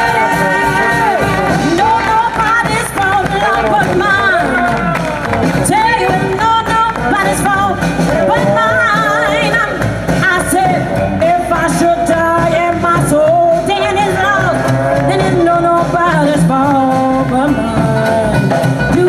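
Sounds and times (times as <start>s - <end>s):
woman singing with vibrato: 0.0s - 4.8s, 5.6s - 19.0s
trumpet: 0.0s - 16.2s
trombone: 0.0s - 17.2s
double bass: 0.0s - 19.0s
drums: 0.0s - 19.0s.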